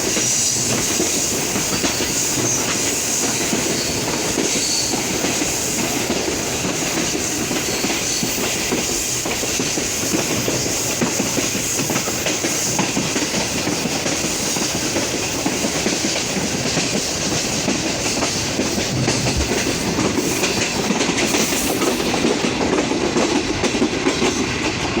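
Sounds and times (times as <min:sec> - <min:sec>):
train wheels clattering over rails: 0:00.0 - 0:25.0.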